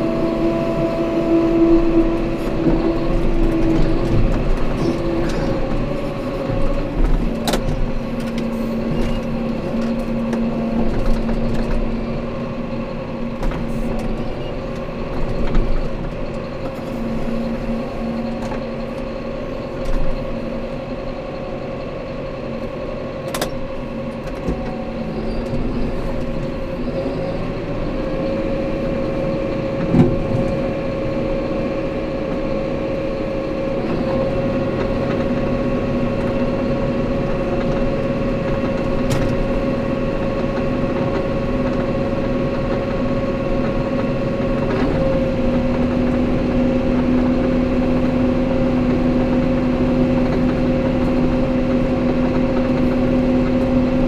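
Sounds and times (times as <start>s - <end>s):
tractor engine from inside cab: 0.0s - 54.0s.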